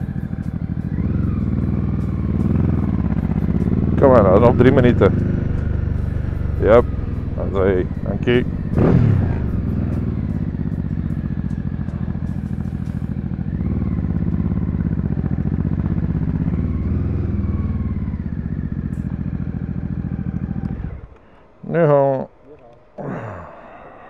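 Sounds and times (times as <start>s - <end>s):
motorcycle engine running: 0.0s - 21.3s.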